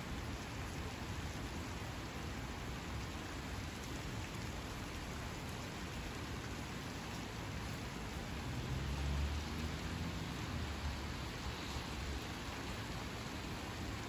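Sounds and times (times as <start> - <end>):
rain falling on water and grass: 0.0 - 14.0.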